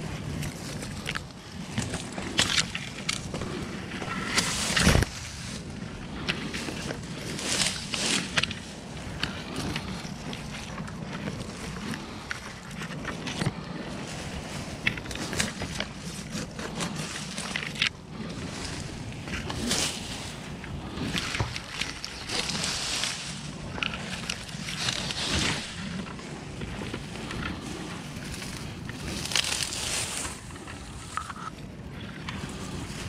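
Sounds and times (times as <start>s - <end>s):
leaves and branches rustling: 0.0s - 33.0s
low steady rumble: 0.0s - 33.0s.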